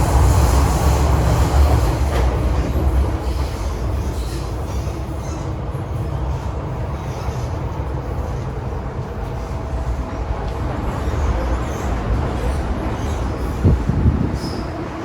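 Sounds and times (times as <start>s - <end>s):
train running on track: 0.0s - 15.0s.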